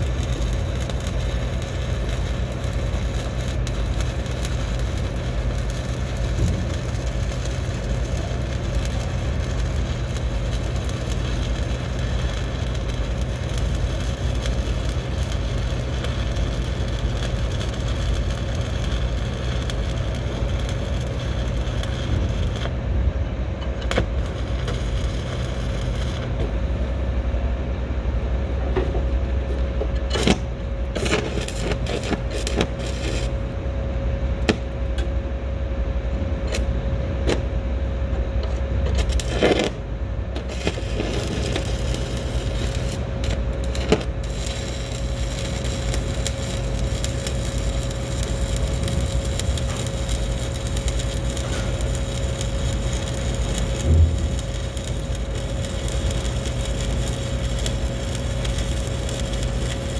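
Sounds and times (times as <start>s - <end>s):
welding arc crackling: 0.0s - 22.9s, 23.6s - 27.1s, 30.1s - 33.6s, 38.8s - 59.9s
steady hum: 0.0s - 59.9s.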